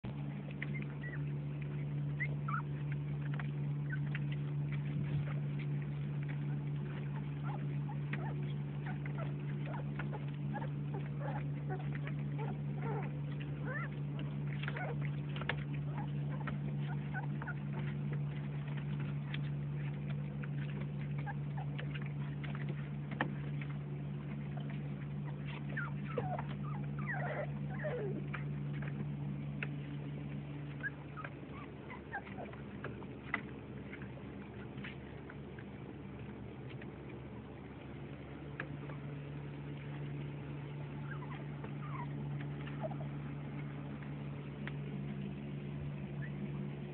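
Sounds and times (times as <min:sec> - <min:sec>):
steady low hum: 0:00.0 - 0:46.9
puppies squeaking and whimpering: 0:00.2 - 0:35.4, 0:40.8 - 0:44.5, 0:46.0 - 0:46.5.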